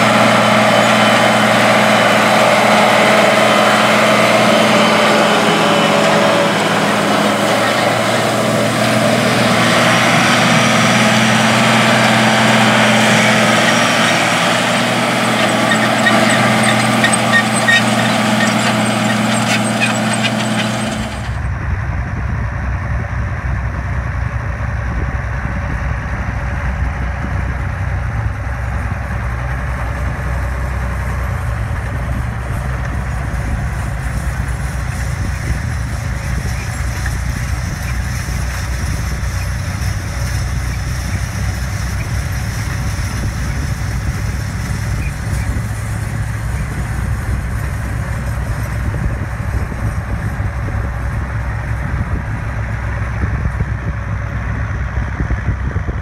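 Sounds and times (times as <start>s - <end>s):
deep muffled diesel engine: 0.0s - 56.0s
tractor diesel engine under load: 0.0s - 56.0s.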